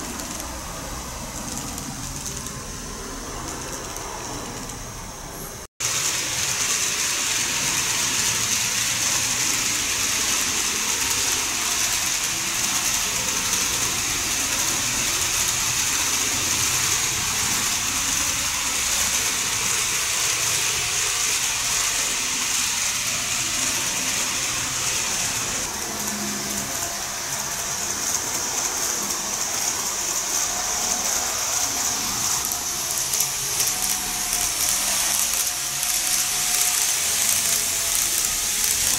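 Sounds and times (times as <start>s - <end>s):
model train whirring on track: 0.0s - 38.9s.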